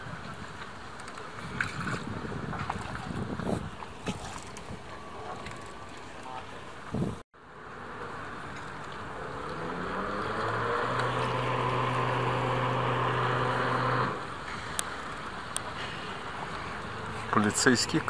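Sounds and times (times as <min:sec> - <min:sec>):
motorboat engine humming: 0:00.0 - 0:18.0.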